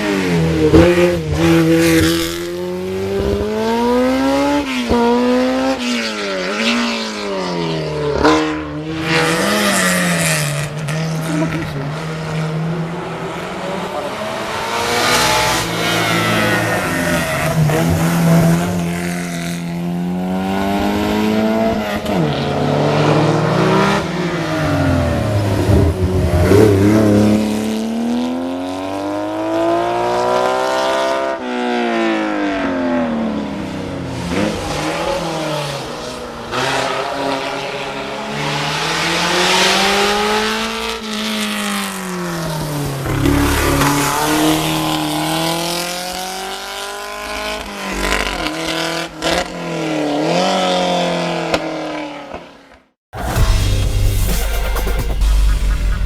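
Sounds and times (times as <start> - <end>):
racing car engine at full throttle: 0.0 - 56.0.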